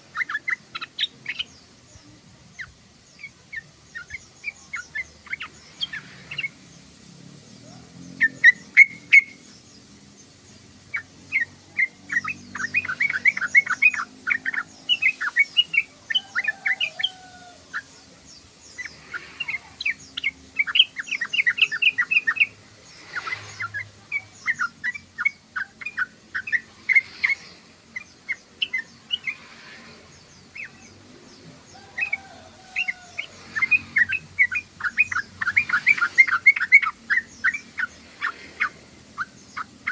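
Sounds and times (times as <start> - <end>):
bulbul chattering chirps: 0.0 - 6.9, 7.5 - 39.9.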